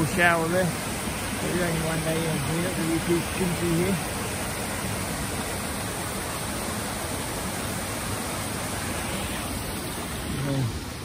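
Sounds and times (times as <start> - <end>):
waterfall pouring into pool: 0.0 - 11.0.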